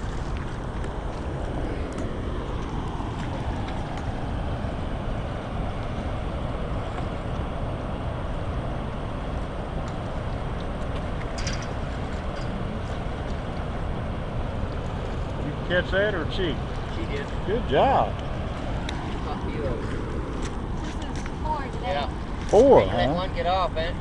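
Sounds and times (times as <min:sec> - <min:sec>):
water rushing below a dam: 0:00.0 - 0:23.5.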